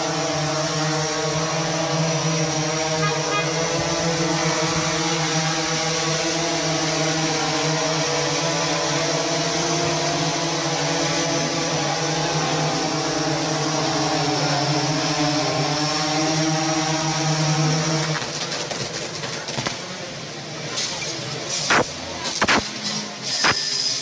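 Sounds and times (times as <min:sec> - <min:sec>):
drone propellers buzzing: 0:00.0 - 0:18.1, 0:21.7 - 0:24.0.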